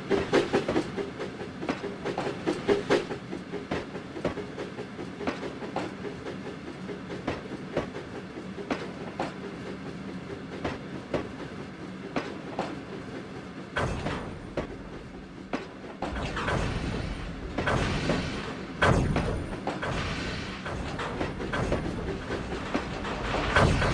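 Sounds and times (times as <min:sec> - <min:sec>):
train running rumble: 0:00.0 - 0:23.9
train wheels clicking over rail joints: 0:00.0 - 0:23.9.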